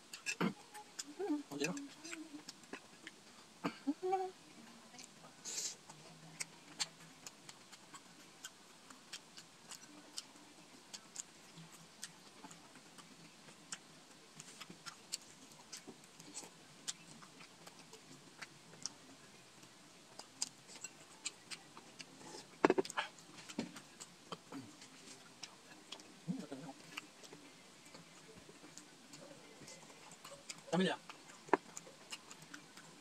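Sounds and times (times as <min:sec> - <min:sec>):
chewing and lip smacking: 0:00.1 - 0:03.5, 0:05.0 - 0:33.0.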